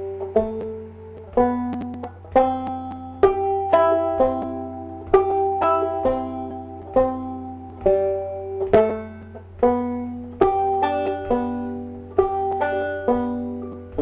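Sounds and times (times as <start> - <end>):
banjo playing slow melody: 0.0 - 14.0.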